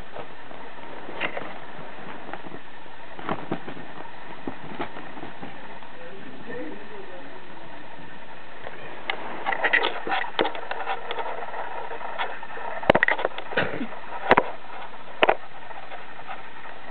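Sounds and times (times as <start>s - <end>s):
steady hiss: 0.0s - 16.9s.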